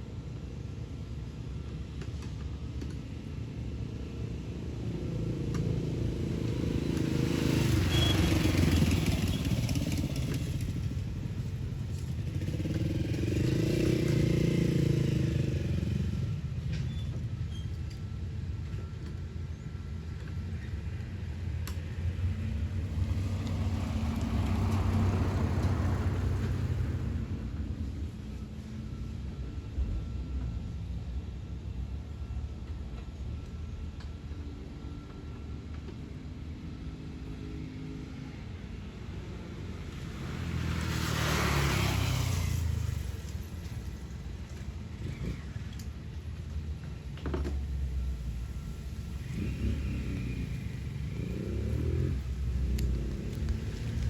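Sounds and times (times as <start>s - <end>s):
road vehicles passing: 0.0s - 54.0s.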